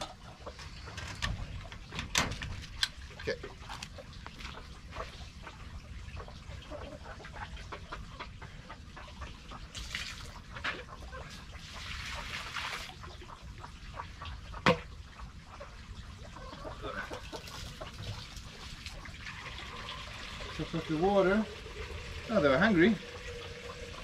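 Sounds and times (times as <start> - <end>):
hens clucking: 0.0 - 24.0.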